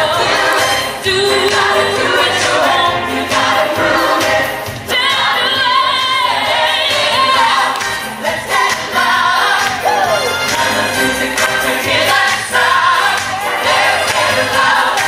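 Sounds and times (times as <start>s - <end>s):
pop dance song by live band: 0.0s - 15.0s.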